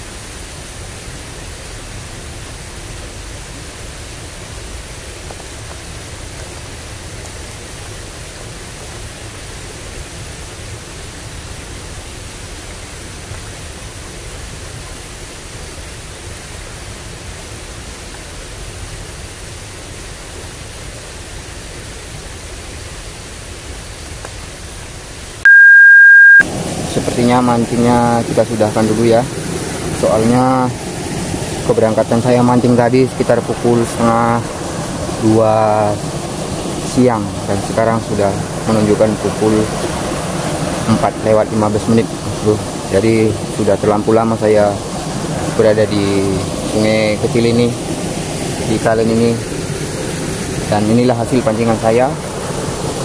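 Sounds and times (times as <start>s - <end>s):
water rushing in a ditch: 0.0s - 25.4s, 26.4s - 53.0s.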